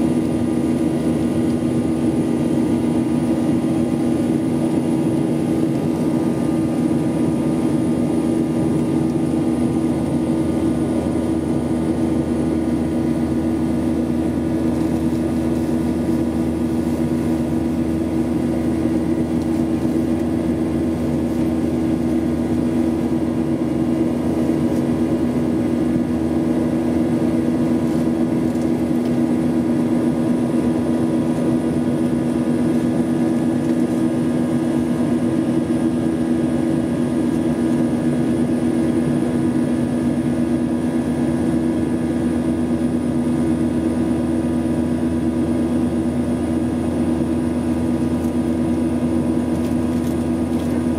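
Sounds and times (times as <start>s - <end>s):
jet engines and airflow rush: 0.0s - 50.9s.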